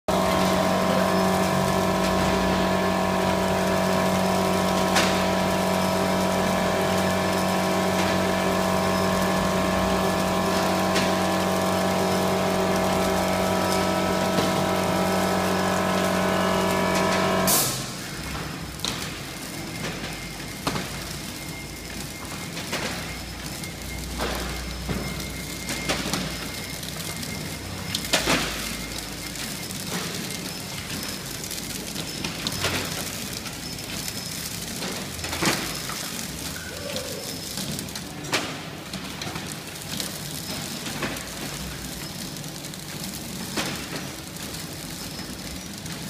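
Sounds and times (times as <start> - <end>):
packing machine humming: 0.1 - 46.0.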